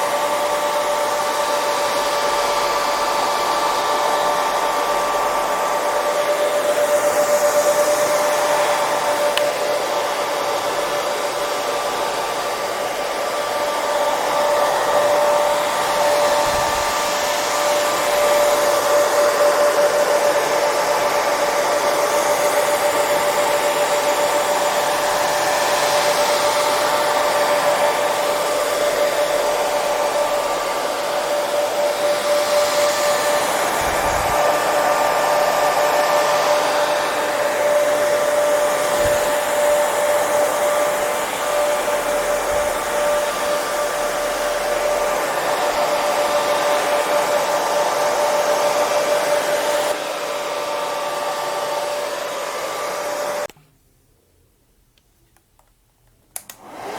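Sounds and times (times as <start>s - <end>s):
hair dryer running: 0.0s - 53.6s, 56.3s - 56.9s.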